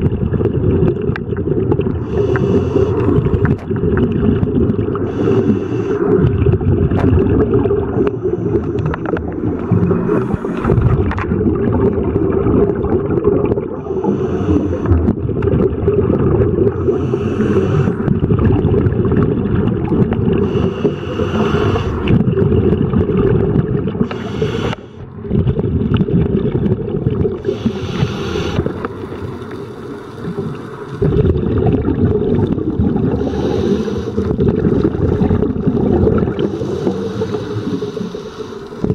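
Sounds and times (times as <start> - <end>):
air bubbles: 0.0 - 38.9
muffled underwater rumble: 0.0 - 38.9
scuba breathing: 1.8 - 12.0, 13.2 - 15.6, 16.5 - 18.9, 19.8 - 25.4, 27.3 - 38.9.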